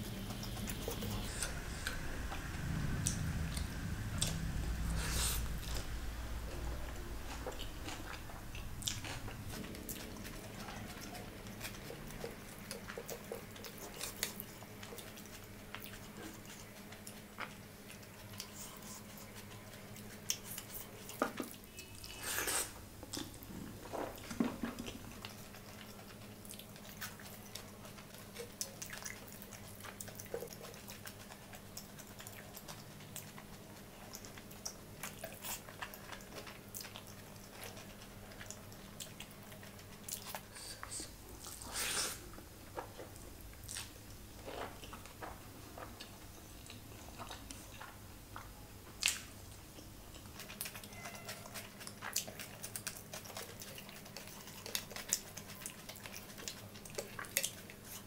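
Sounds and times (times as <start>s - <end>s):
low steady hum: 0.0s - 58.0s
wet chewing: 0.0s - 58.0s.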